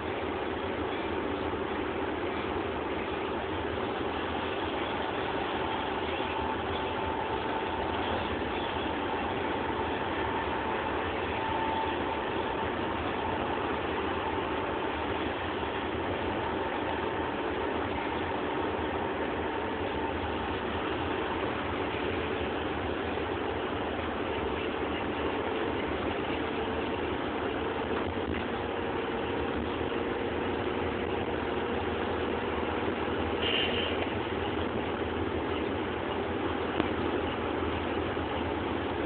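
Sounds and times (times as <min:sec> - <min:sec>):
faint steady whine: 0:00.0 - 0:39.0
van engine and road noise: 0:00.0 - 0:39.0.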